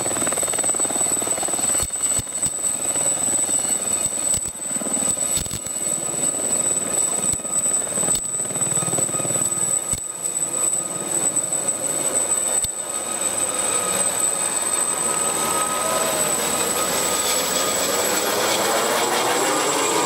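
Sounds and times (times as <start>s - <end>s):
helicopter climbing with turbine whine: 0.0s - 20.0s.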